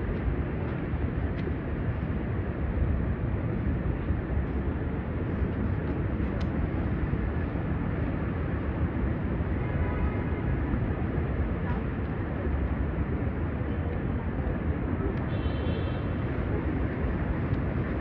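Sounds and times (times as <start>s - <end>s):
busy city street traffic rumble: 0.0s - 18.0s.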